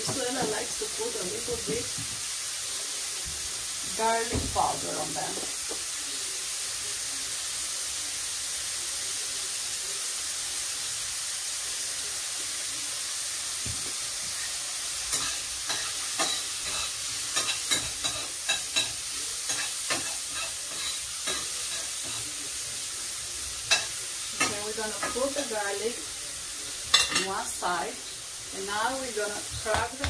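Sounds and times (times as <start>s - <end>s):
mushrooms sizzling in a frying pan: 0.0s - 30.0s.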